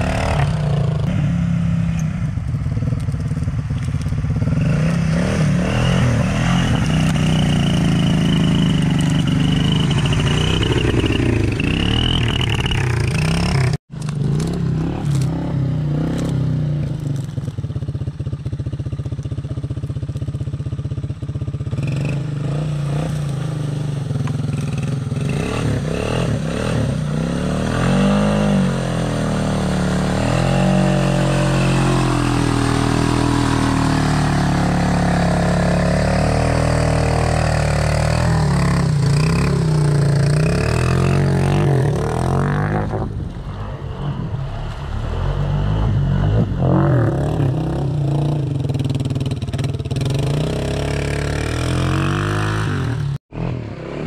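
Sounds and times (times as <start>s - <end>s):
quad engine revving: 0.0s - 2.3s, 4.4s - 17.3s, 21.7s - 54.0s.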